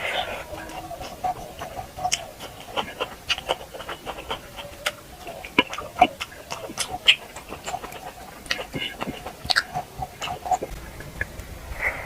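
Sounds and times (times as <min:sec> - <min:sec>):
chewing and lip-smacking: 0:00.0 - 0:11.5.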